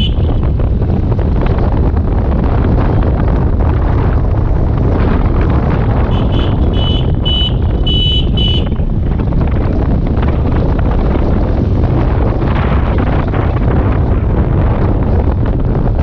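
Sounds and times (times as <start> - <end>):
motorcycle running: 0.0 - 16.0
road noise: 0.0 - 16.0
wind rushing over microphone: 0.0 - 16.0.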